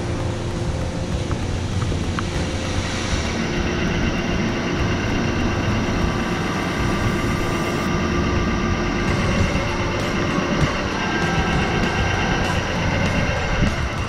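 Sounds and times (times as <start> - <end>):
industrial machinery drone: 0.0 - 14.0
steady whining tones: 0.0 - 14.0.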